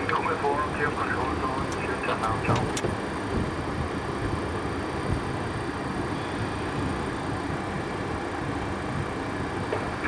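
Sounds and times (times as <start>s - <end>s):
jet engines idling: 0.0s - 10.0s.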